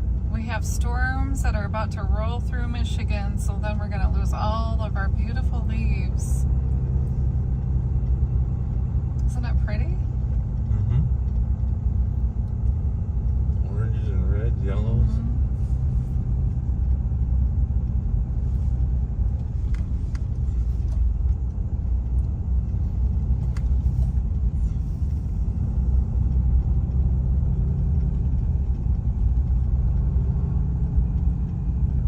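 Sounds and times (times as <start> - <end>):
car cabin road rumble: 0.0 - 32.0.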